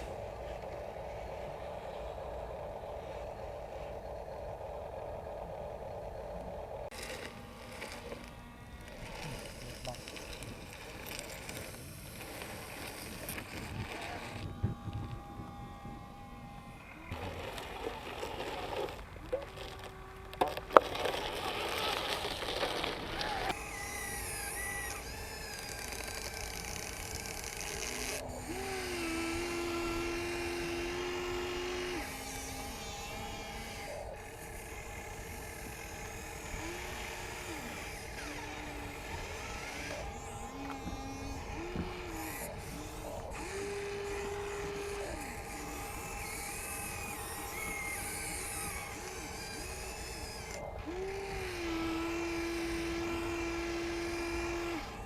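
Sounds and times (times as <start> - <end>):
electric motors whining: 0.0 - 55.0.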